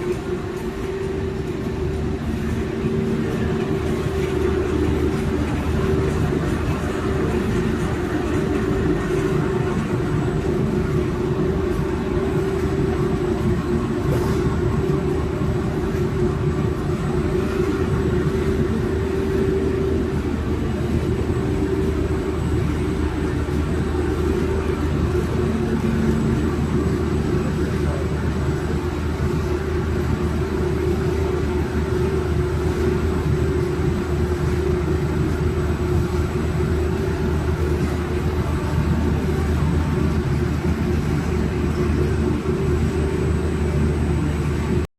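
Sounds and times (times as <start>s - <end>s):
printing press drone: 0.0s - 44.9s.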